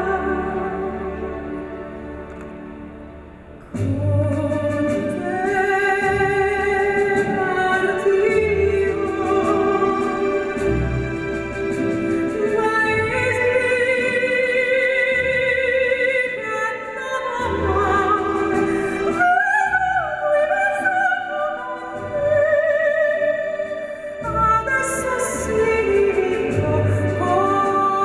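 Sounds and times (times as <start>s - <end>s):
woman singing operatic melody: 0.0s - 2.3s, 3.7s - 28.0s
instrumental accompaniment: 0.0s - 28.0s.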